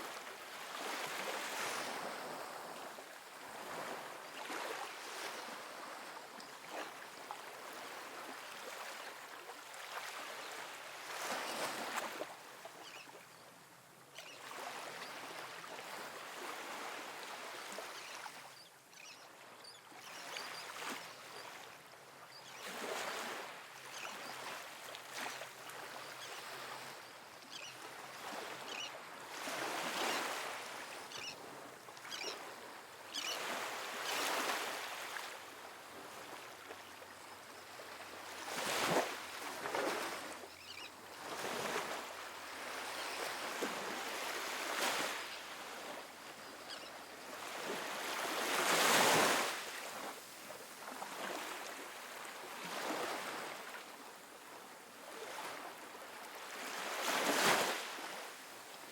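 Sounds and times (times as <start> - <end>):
small waves washing onto sand: 0.0 - 13.0, 22.7 - 58.9.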